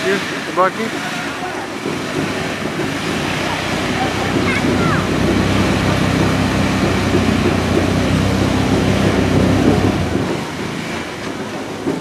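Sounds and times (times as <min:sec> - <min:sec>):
vehicle engine running under load: 0:00.0 - 0:12.0
wheels splashing through water: 0:00.0 - 0:12.0.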